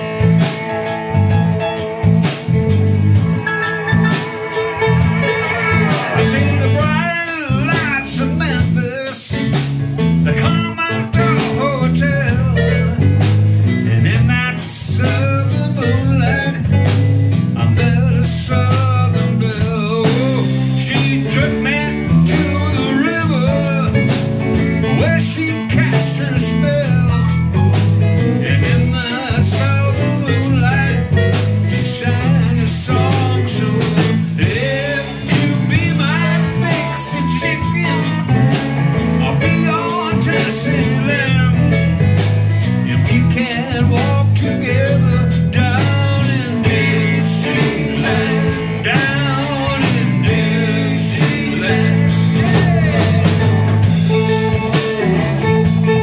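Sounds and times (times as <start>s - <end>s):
live blues-rock band playing: 0.0s - 56.0s.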